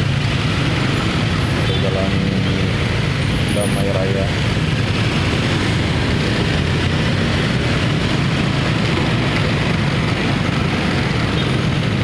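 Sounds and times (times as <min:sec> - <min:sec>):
road traffic engine hum: 0:00.0 - 0:12.0.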